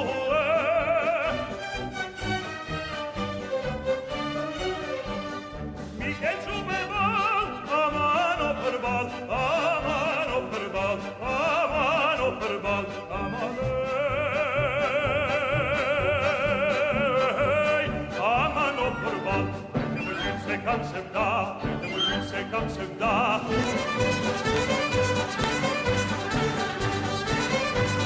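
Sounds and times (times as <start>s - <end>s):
operatic singing: 0.0s - 28.0s
orchestra playing: 0.0s - 28.0s.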